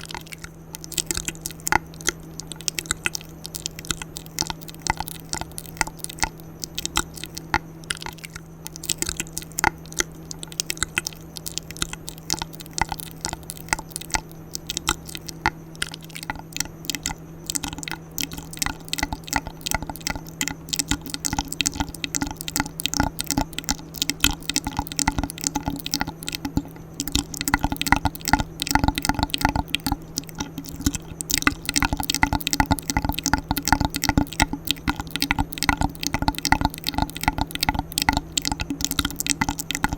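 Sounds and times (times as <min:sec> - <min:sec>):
steady low hum: 0:00.0 - 0:39.9
wet mouth clicks and smacks: 0:00.0 - 0:39.9.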